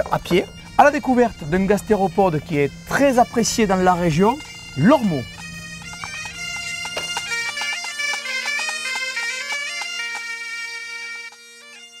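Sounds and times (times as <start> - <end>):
bagpipe drone: 0.0 - 12.0
bagpipe melody: 0.0 - 12.0.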